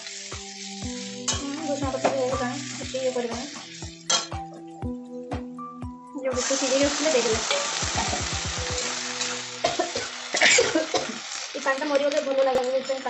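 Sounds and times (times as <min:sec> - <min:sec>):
loud sizzle in hot oil: 0:00.0 - 0:04.5, 0:06.3 - 0:13.0.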